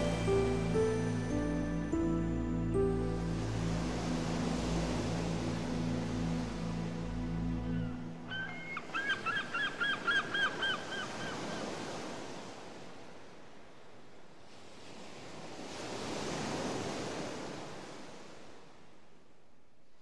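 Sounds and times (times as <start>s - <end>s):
ocean waves washing: 0.0s - 19.1s.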